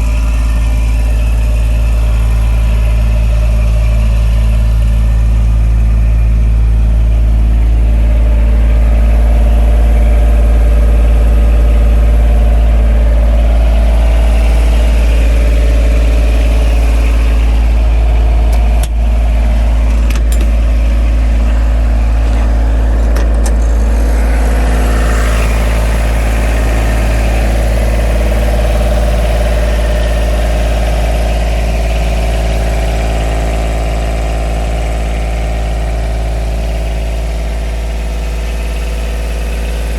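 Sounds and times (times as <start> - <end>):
compressor diesel engine running: 0.0 - 39.9.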